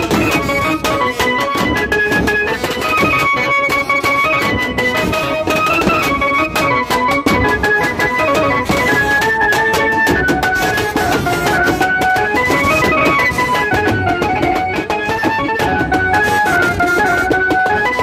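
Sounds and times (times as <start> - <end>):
fast dense drumming: 0.0 - 18.0
melody in held notes: 0.0 - 18.0.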